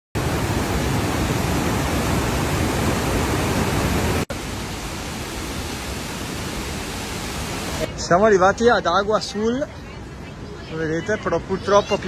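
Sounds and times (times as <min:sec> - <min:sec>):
heavy rush of water: 0:00.2 - 0:12.0.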